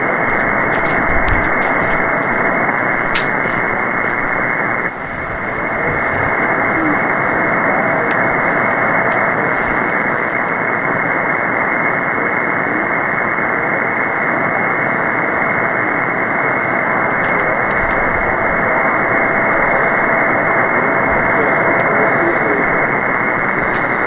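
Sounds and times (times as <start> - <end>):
radio receiver hiss: 0.0 - 24.0.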